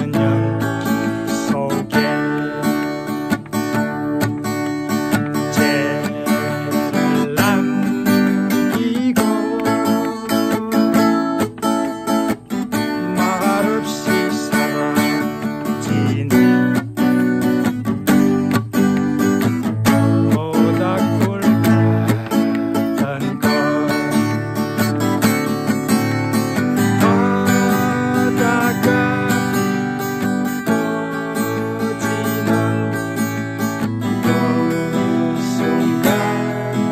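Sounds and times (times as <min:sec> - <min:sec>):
acoustic guitar strumming: 0:00.0 - 0:36.9.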